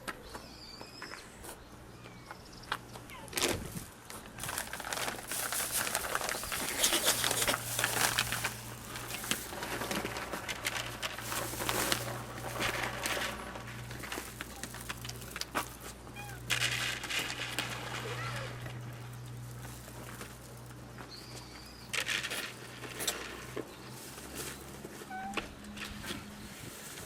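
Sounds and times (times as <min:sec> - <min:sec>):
cats crunching dry food: 0:02.7 - 0:27.0.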